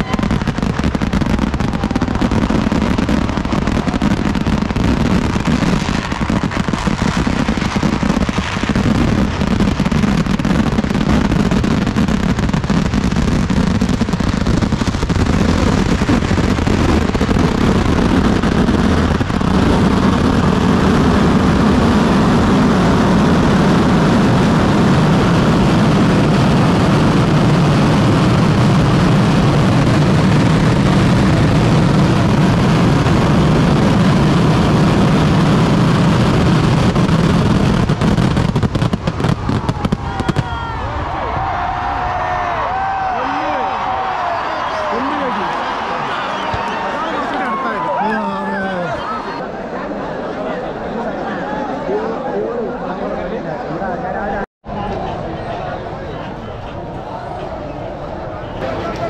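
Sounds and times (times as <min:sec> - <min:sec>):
fireworks barrage rumble: 0:00.0 - 0:51.3, 0:52.8 - 0:59.0.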